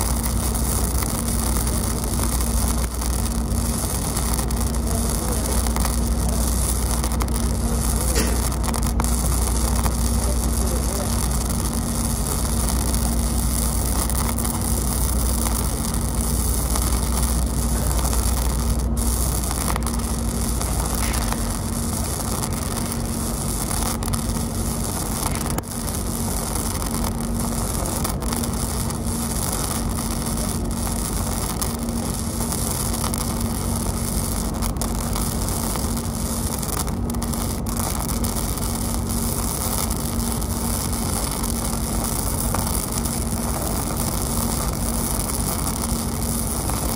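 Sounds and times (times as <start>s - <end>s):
steady hum: 0.0s - 46.9s
welding arc crackling: 0.0s - 46.9s.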